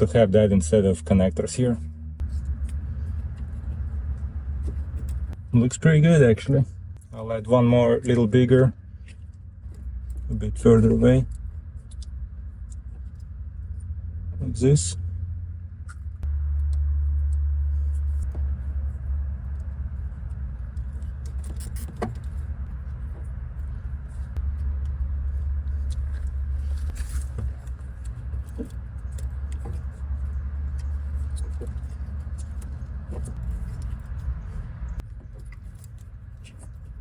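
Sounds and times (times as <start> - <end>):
low rumble: 0.0 - 37.0.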